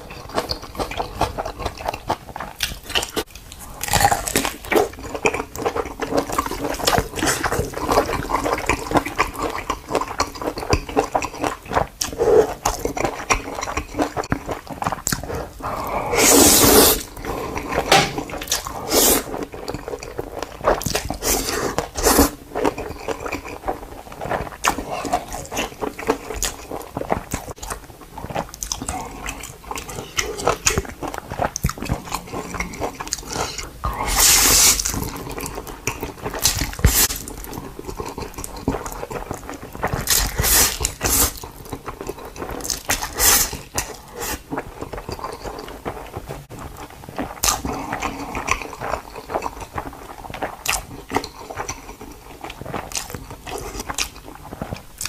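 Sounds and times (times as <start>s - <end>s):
animal chewing and crunching food: 0.0s - 55.0s.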